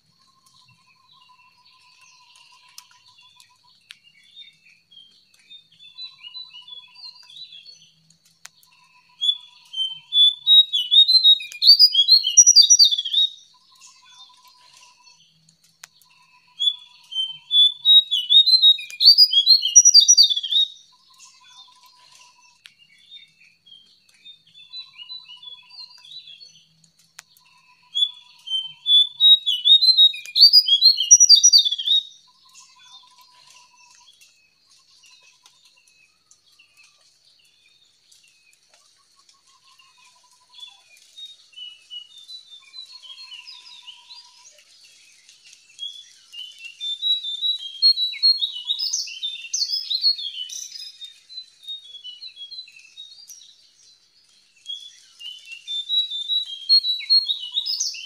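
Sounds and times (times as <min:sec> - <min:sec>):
soft bird chirps: 0:00.0 - 0:58.0
songbird twittering: 0:00.2 - 0:58.0.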